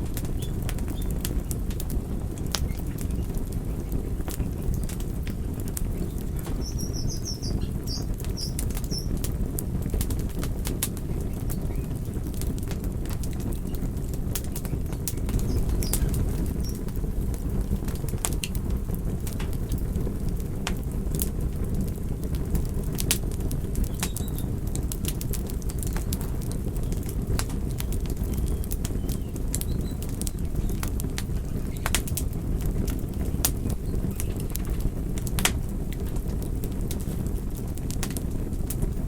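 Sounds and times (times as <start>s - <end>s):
flames rushing: 0.0s - 39.0s
wood fire popping and snapping: 0.0s - 39.0s.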